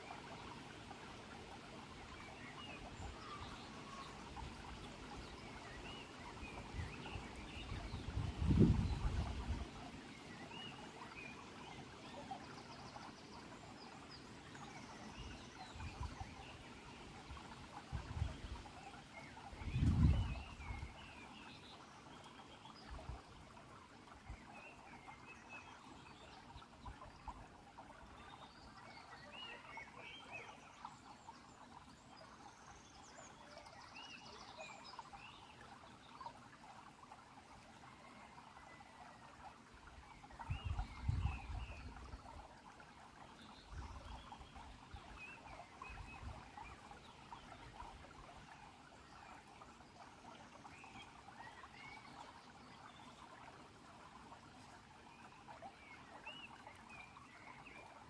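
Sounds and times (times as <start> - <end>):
stream babbling over pebbles: 0.0 - 58.0.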